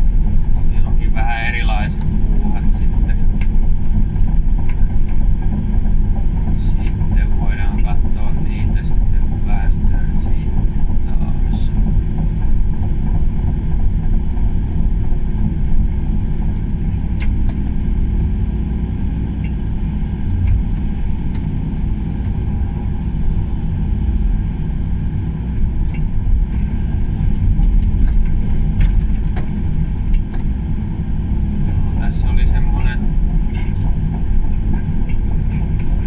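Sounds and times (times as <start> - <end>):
excavator engine and track rumble: 0.0 - 36.0.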